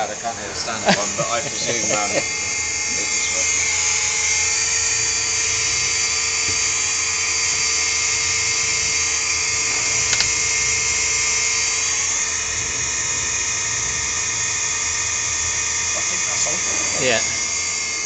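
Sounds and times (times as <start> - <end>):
fuel pump high-pitched whine: 0.0 - 18.0.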